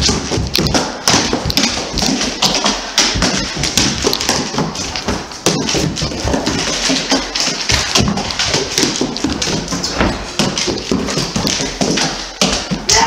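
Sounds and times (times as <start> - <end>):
dog paws tapping on wooden floor: 0.0 - 13.0.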